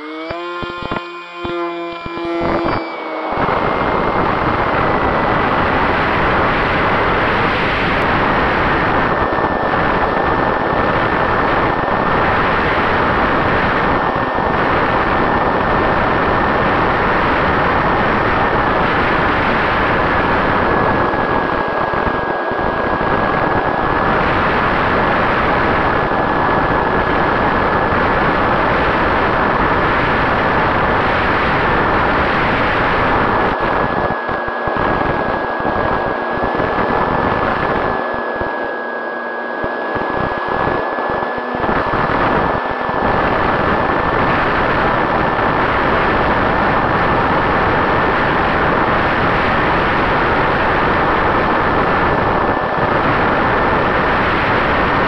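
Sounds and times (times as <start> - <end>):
airflow rushing on microphone: 0.0 - 55.0
electric motor propeller whine: 0.0 - 55.0.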